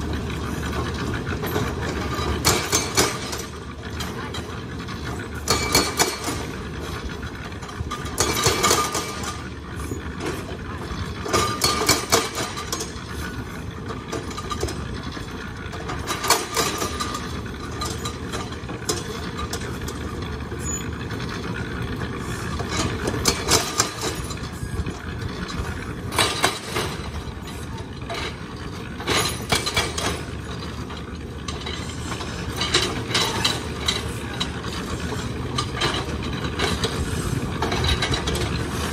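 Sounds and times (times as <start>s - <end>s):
hydraulic breaker hammering rock: 0.0s - 21.7s, 22.3s - 38.9s
excavator engine running: 0.0s - 38.9s.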